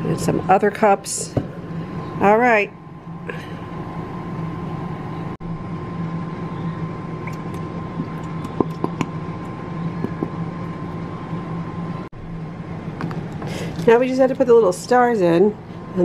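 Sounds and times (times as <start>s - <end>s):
machine hum with low drone: 0.0s - 16.0s.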